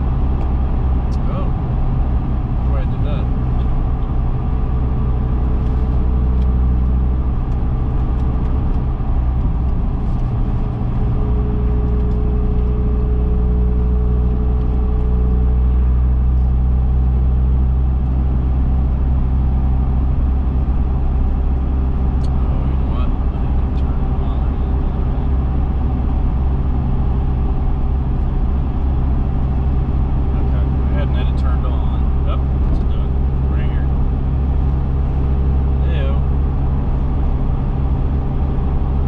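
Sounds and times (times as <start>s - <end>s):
car engine cruising drone: 0.0s - 39.0s
tyre and road noise: 0.0s - 39.0s.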